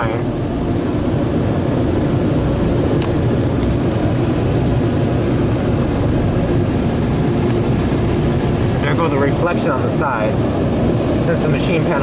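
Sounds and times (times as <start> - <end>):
car wash dryer blowers: 0.0 - 12.0.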